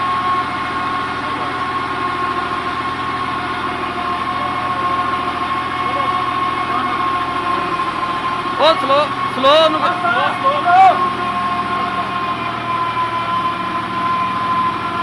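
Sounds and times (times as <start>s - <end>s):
mixer wagon engine drone: 0.0s - 15.0s.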